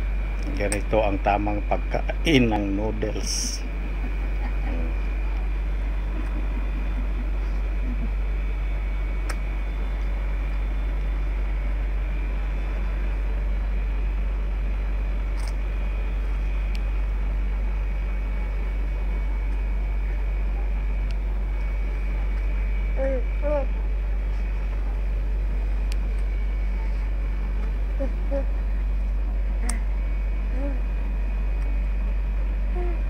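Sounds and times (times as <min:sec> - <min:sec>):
low hum: 0:00.0 - 0:33.0
thin high whine: 0:00.0 - 0:33.0.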